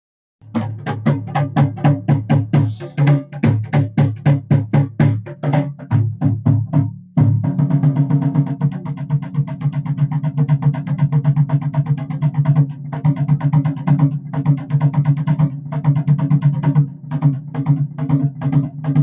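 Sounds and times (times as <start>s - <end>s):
kettle drum beaten rapidly: 0.4s - 19.0s.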